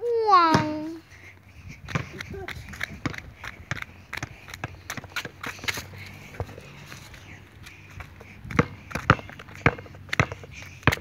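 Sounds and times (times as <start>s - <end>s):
basketball bouncing on concrete: 0.5s - 1.0s, 1.9s - 7.3s, 7.9s - 11.0s.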